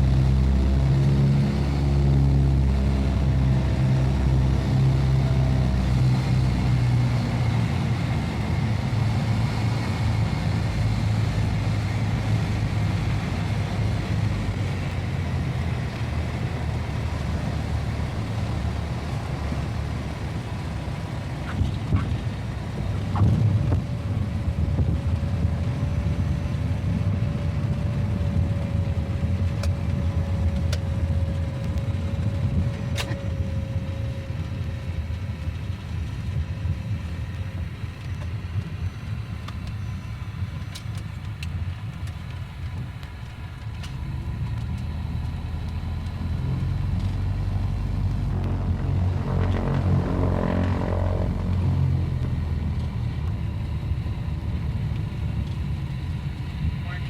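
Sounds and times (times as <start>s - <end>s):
vehicle engine rumbling: 0.0s - 57.0s.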